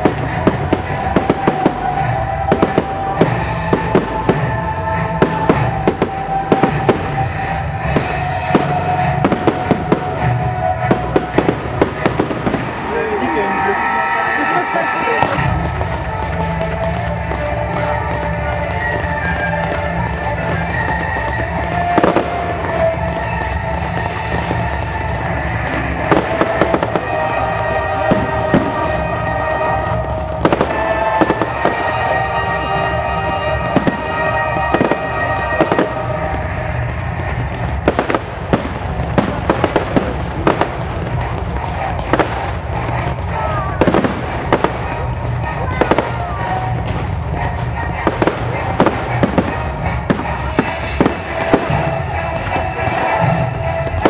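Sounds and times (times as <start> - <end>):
fireworks bangs and cracks: 0.0 - 54.0
music with held notes: 0.0 - 54.0.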